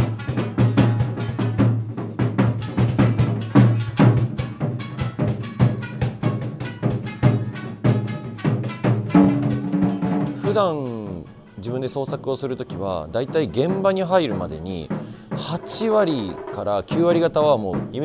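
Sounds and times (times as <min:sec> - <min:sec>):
shamisen plucking: 0:00.0 - 0:18.0
taiko drums: 0:00.0 - 0:18.0.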